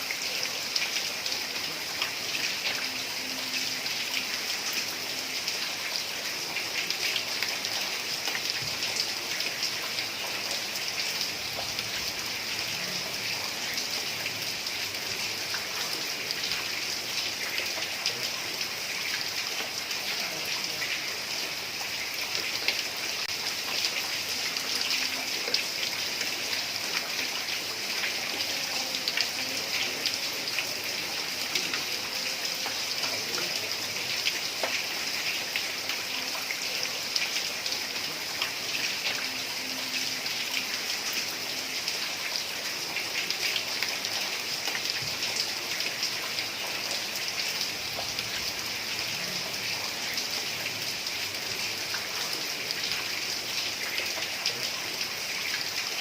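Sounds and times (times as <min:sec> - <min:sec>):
heavy rain on a tile roof: 0:00.0 - 0:56.0.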